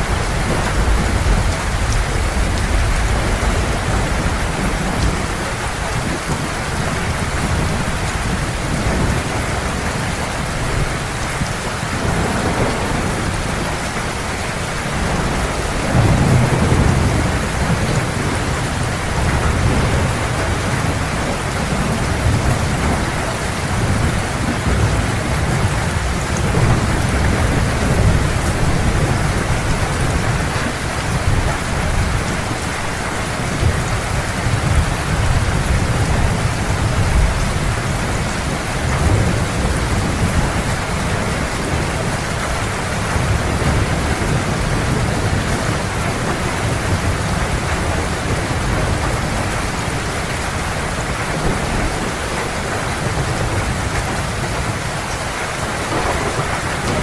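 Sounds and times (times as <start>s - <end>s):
heavy rain pouring: 0.0s - 57.0s
thunder rumbling: 0.0s - 57.0s.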